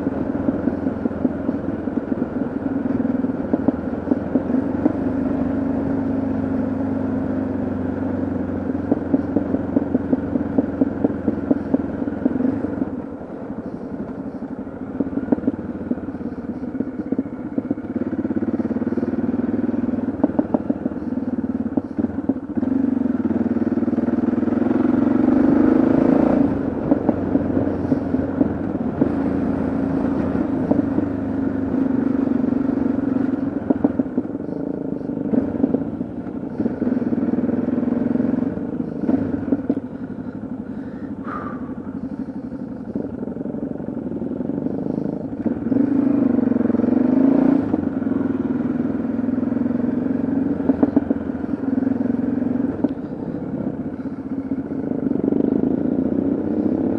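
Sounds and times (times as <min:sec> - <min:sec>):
engine clatter: 0:00.0 - 0:56.9
motorcycle engine revving: 0:00.0 - 0:56.9.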